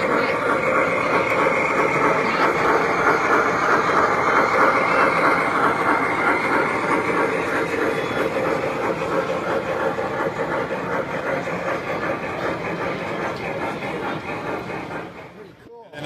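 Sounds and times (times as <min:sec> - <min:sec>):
model train wheels rumbling on track: 0:00.0 - 0:15.8.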